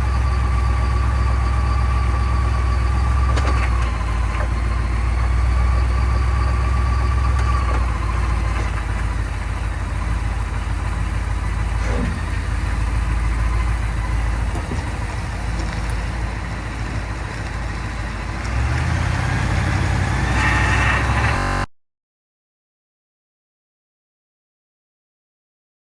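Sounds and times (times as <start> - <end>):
transmission grinding noise: 0.0 - 21.7
vehicle engine and drivetrain: 0.0 - 21.7.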